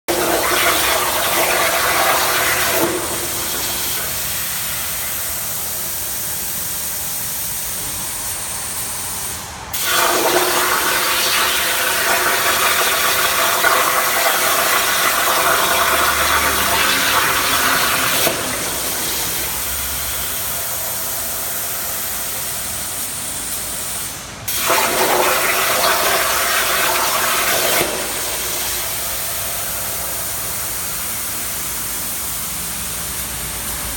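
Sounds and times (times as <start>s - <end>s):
plasma cutting torch hissing: 0.1s - 33.9s.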